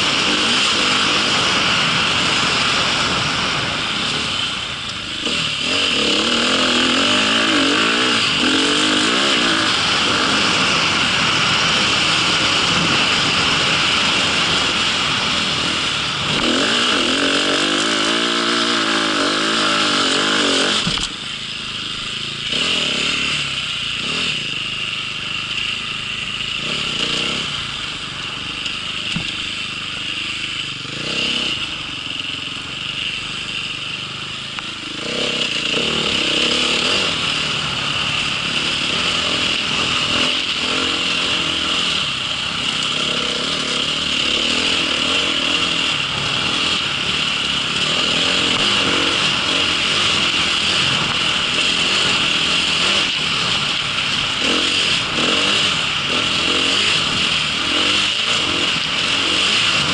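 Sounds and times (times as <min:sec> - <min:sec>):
small vehicle engine revving: 0:00.0 - 0:59.9.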